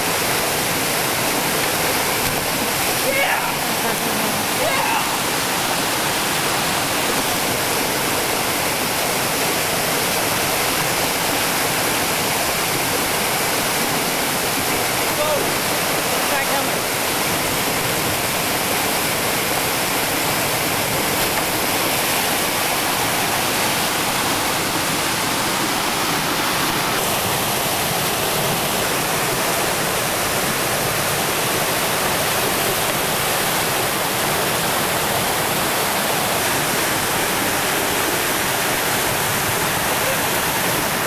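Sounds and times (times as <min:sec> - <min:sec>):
whitewater rushing over rocks: 0:00.0 - 0:41.0.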